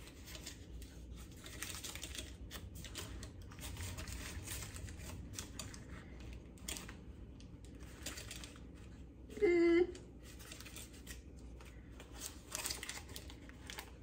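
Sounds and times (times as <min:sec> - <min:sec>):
paper rustling: 0:00.0 - 0:09.2, 0:10.1 - 0:14.0.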